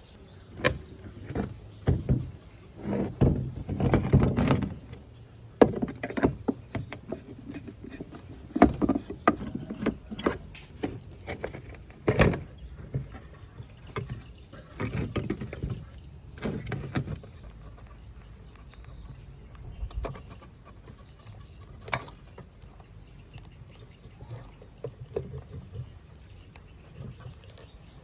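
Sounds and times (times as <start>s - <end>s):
scraping and rustling: 0.0s - 28.0s.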